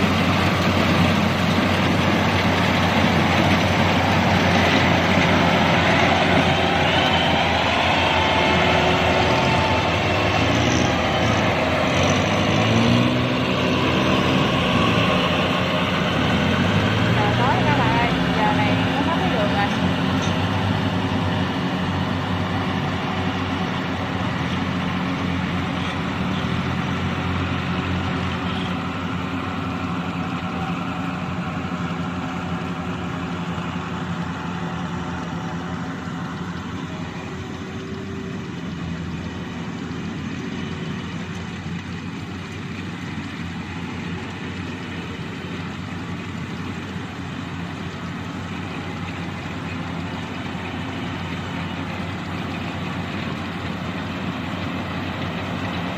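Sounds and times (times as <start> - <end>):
combine harvester engine running: 0.0 - 55.9.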